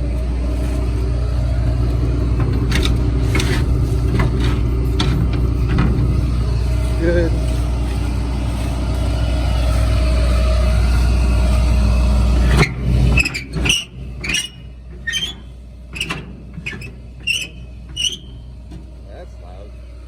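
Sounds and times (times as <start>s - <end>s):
farm vehicle engine droning: 0.0s - 20.0s.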